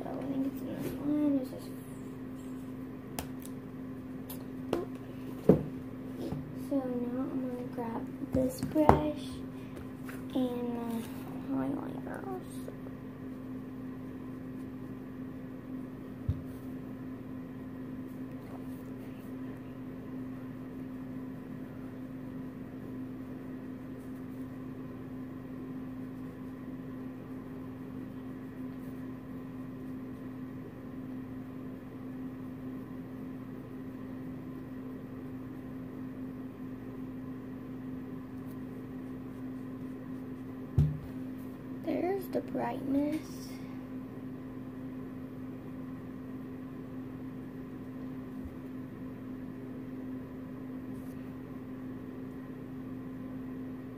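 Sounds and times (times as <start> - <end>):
room noise: 0.0 - 44.0
low electrical hum: 0.0 - 53.9.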